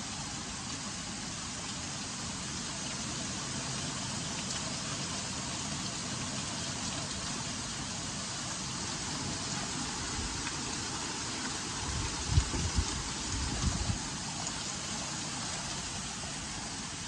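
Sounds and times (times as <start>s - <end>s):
hail falling through trees: 0.0s - 17.0s.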